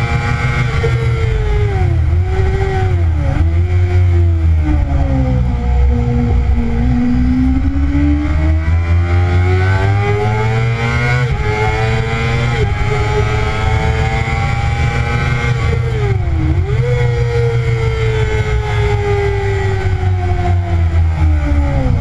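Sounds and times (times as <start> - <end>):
low wind rumble on microphone: 0.0 - 22.0
motorcycle engine revving: 0.0 - 22.0.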